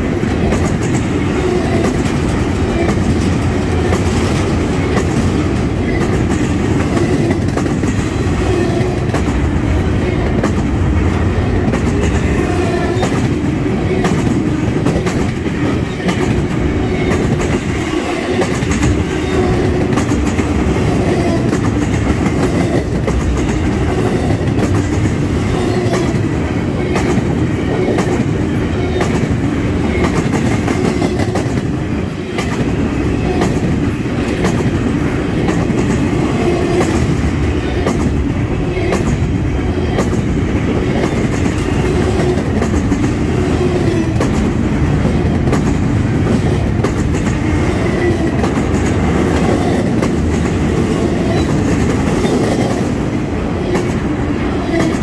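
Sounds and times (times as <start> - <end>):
freight train rumbling past: 0.0 - 55.0
wheels clickety-clack on rails: 0.0 - 55.0.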